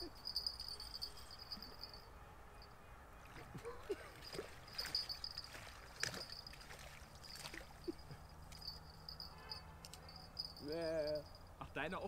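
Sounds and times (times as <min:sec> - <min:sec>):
river water trickling: 0:00.0 - 0:02.0, 0:02.6 - 0:11.7
high insect chirping trills: 0:00.0 - 0:02.8, 0:04.3 - 0:11.8.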